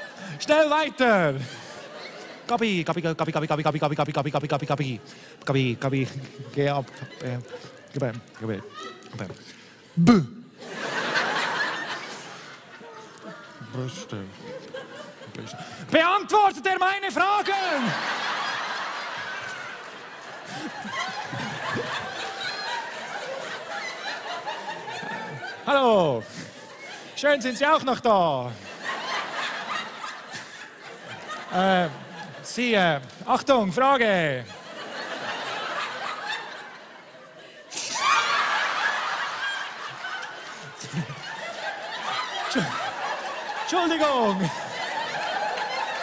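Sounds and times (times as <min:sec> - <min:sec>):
audience laughing: 0:00.0 - 0:09.7, 0:10.5 - 0:46.0.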